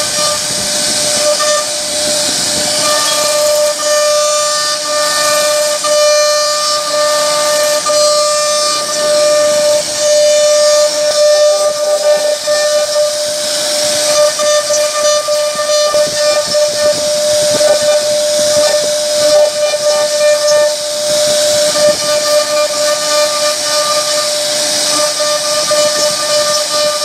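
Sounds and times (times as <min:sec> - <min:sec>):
bit cutting wood hiss: 0:00.0 - 0:27.0
router spindle whine: 0:00.0 - 0:27.0.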